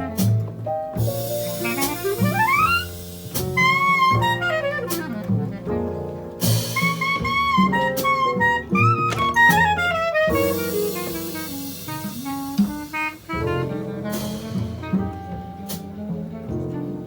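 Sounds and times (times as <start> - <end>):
drums with cymbal hits: 0.0 - 16.7
double bass: 0.0 - 17.0
saxophone: 1.4 - 17.0.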